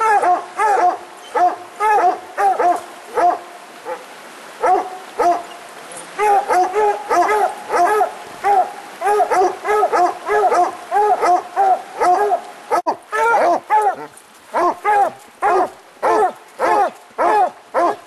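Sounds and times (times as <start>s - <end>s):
hounds barking: 0.0s - 4.0s, 4.6s - 5.5s, 6.2s - 18.0s.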